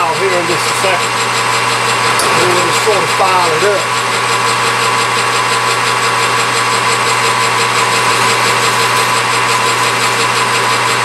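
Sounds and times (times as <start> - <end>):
hand file on spinning steel: 0.0 - 11.0
metal lathe whining: 0.0 - 11.0.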